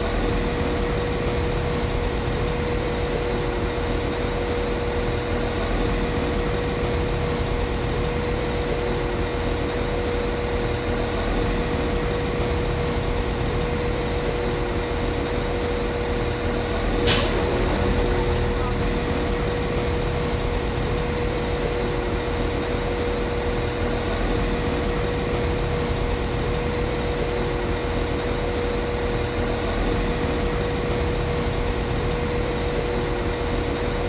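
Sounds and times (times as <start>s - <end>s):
steady engine whine: 0.0s - 34.0s.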